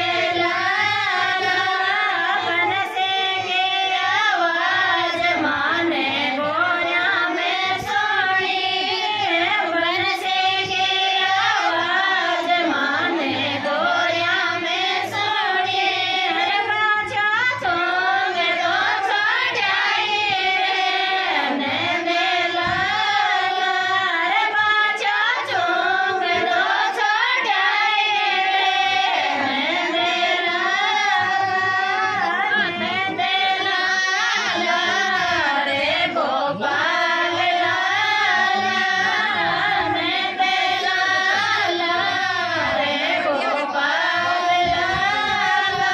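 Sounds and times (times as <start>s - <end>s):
women singing folk song: 0.0s - 45.9s.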